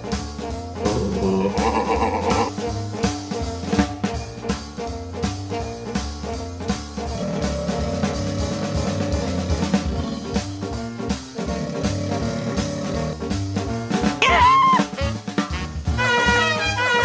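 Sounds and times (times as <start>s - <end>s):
bass line: 0.0s - 17.0s
drum kit beat: 0.0s - 17.0s
jazzy cartoon music: 0.0s - 17.0s.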